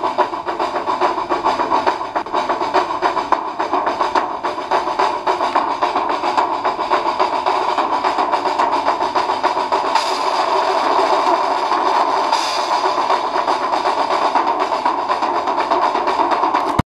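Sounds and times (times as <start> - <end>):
fast drum solo: 0.0 - 16.8.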